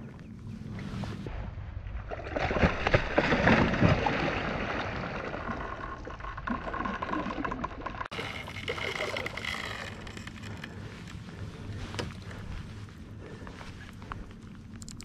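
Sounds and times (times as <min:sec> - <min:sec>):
water sloshing: 0:02.2 - 0:15.0.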